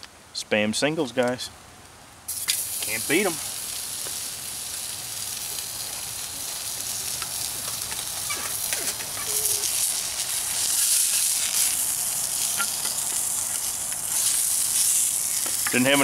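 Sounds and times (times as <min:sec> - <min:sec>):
sizzling hiss on camp stove: 0:02.3 - 0:16.0.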